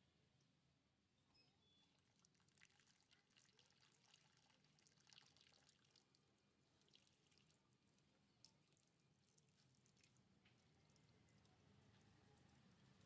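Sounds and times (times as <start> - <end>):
small crackles and ticks: 2.0 - 13.0
water pouring and trickling: 2.0 - 13.0.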